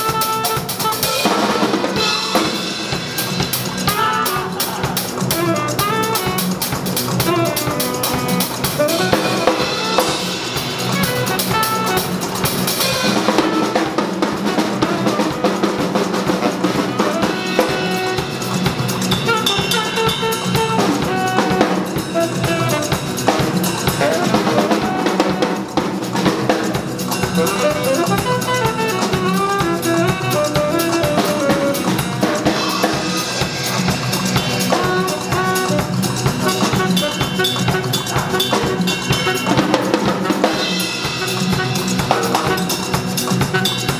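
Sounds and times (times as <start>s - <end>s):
jazz drum kit playing: 0.0s - 43.9s
saxophone melody: 0.0s - 43.9s.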